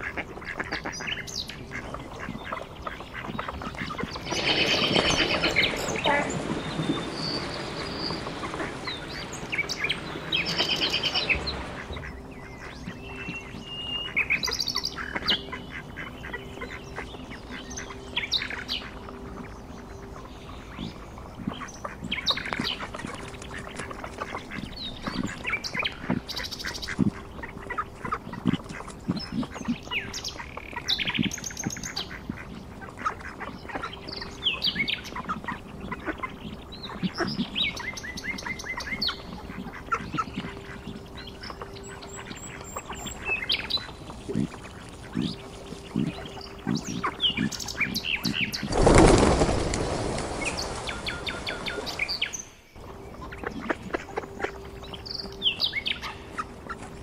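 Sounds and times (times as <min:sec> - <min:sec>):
ducks quacking and squawking: 0:00.0 - 0:19.5, 0:20.2 - 0:49.4, 0:50.6 - 0:57.0
faint steady hum: 0:00.0 - 0:57.0.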